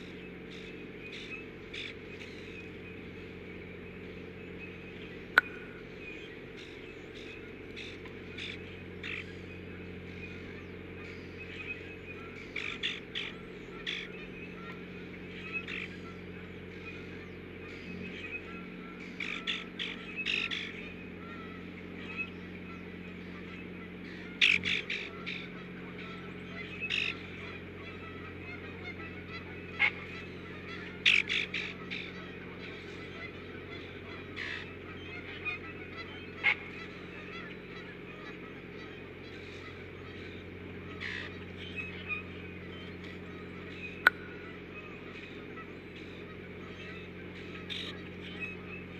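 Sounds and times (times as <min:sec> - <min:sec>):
honking bird calls: 0:00.0 - 0:48.9
steady hum: 0:00.0 - 0:48.9.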